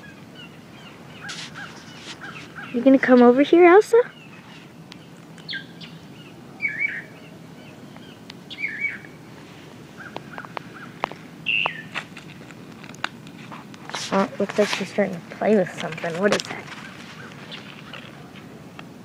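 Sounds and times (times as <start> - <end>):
songbirds chirping: 0.0 - 19.0
steady background hush: 0.0 - 19.0.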